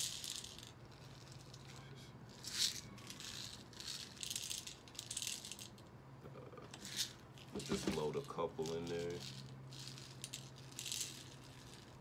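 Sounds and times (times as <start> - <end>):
steel balls rattling in plastic bottle: 0.0 - 5.8, 6.8 - 12.0.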